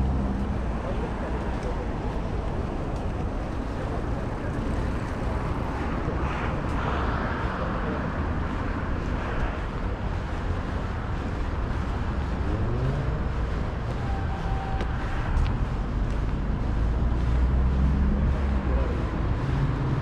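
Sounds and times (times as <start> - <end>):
street noise: 0.0 - 20.0
traffic rumble: 0.0 - 20.0.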